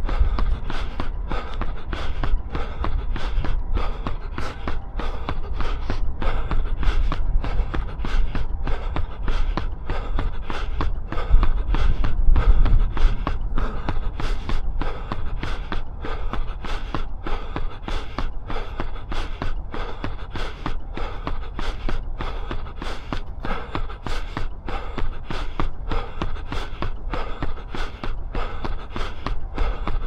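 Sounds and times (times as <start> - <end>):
running footsteps on pavement: 0.0 - 30.0
wind rumble on microphone: 0.0 - 30.0.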